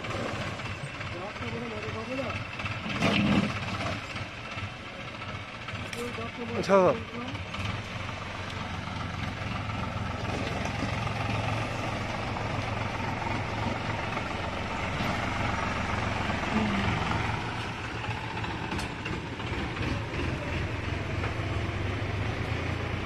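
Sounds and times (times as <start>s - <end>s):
tractor diesel engine humming: 0.0s - 23.0s.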